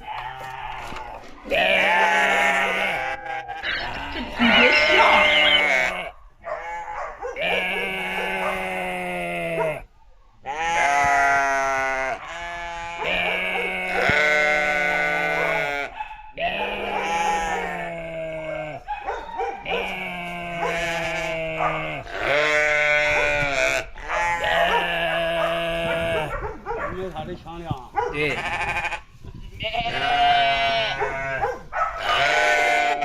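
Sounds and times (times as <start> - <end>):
bleat-like animal calls: 0.0 - 9.8, 10.5 - 18.9, 19.7 - 26.3, 28.2 - 31.4, 32.0 - 33.0.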